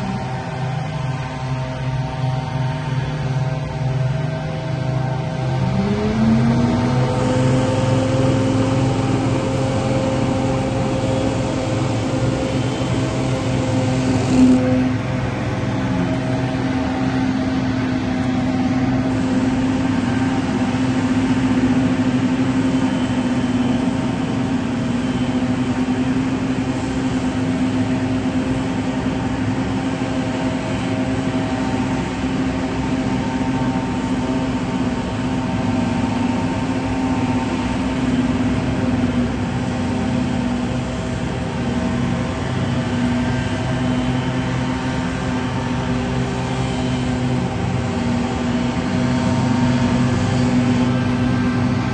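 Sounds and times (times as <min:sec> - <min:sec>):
leaf blowers running: 0:00.0 - 0:51.9
ride-on mower engine: 0:00.0 - 0:51.9.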